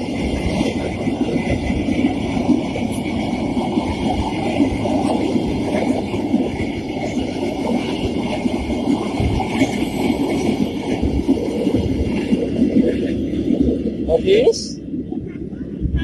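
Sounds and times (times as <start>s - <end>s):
train wagons rolling over rails: 0.0s - 14.8s.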